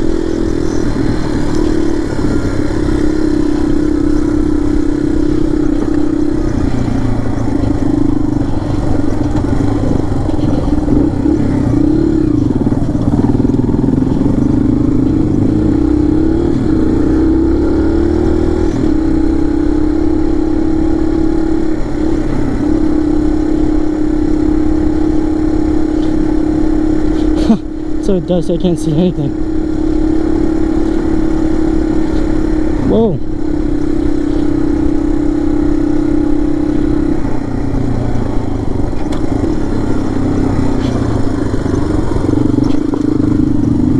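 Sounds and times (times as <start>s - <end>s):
dirt bike engine running: 0.0s - 43.9s
rough ride rumble: 0.0s - 43.9s.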